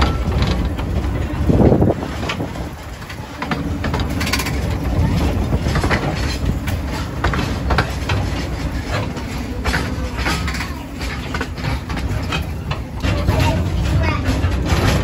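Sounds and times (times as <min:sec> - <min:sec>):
train rumbling: 0:00.0 - 0:15.0
wheels clicking on rails: 0:00.0 - 0:15.0.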